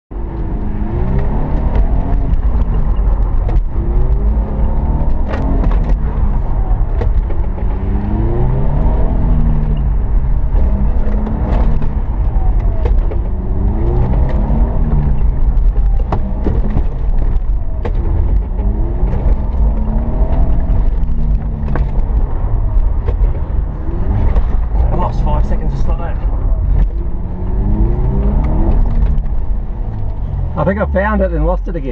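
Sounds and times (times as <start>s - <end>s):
car engine revving: 0.1s - 31.9s
low road rumble: 0.1s - 31.9s.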